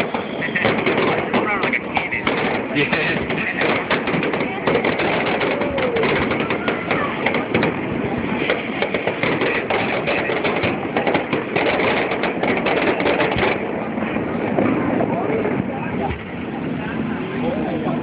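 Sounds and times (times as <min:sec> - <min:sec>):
firework shells bursting: 0:00.0 - 0:15.2.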